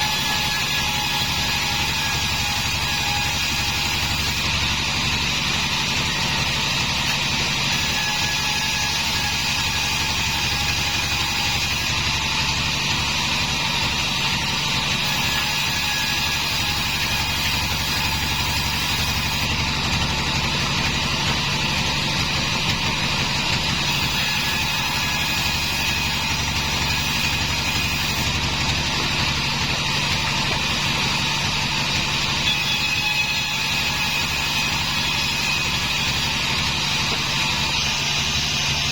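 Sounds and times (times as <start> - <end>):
bandsaw sawmill drone: 0.0 - 38.9.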